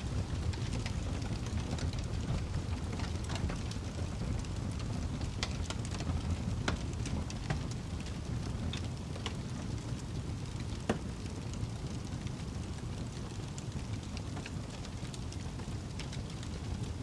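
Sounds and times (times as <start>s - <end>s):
low rush of flames: 0.0s - 17.0s
wood fire crackling: 0.0s - 17.0s.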